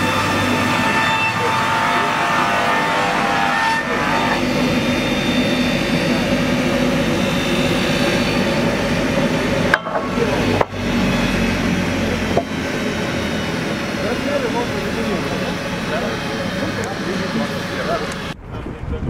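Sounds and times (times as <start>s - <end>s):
circular saw cutting boards: 0.0s - 18.4s.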